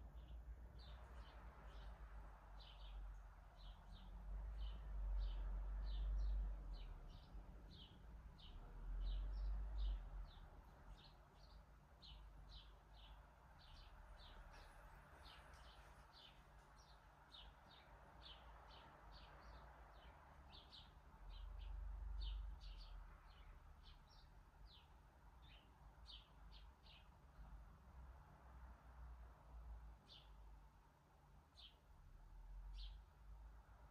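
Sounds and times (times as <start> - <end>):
small birds chirping: 0.0 - 27.7, 29.3 - 33.9.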